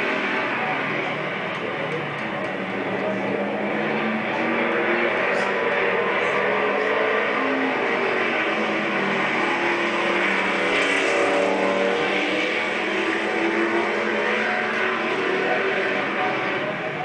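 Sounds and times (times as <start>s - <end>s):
race car engines on television: 0.0s - 17.0s.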